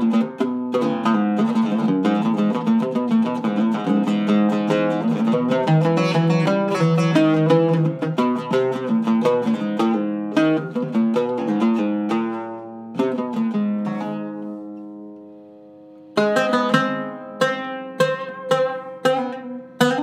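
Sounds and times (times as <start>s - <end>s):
oud plucked with a plectrum: 0.0s - 20.0s.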